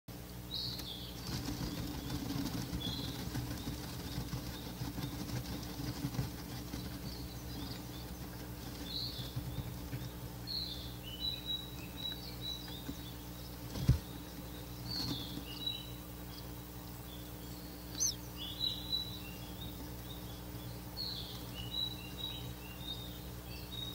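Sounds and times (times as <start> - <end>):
steady low hum: 0.1 - 23.9.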